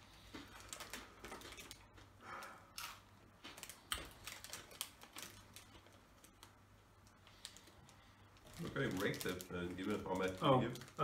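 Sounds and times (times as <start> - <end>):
snack sticks being chewed: 0.1 - 9.4
foil crisp packet crackling: 0.2 - 1.9, 2.7 - 11.0.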